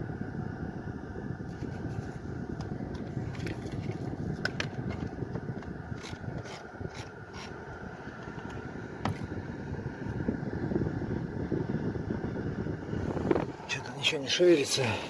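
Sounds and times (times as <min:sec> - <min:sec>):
car low rumble: 0:00.0 - 0:15.0.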